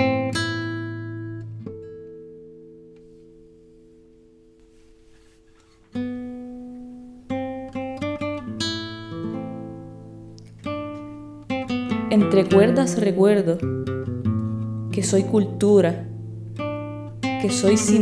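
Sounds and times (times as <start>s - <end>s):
solo classical guitar: 0.0s - 18.0s.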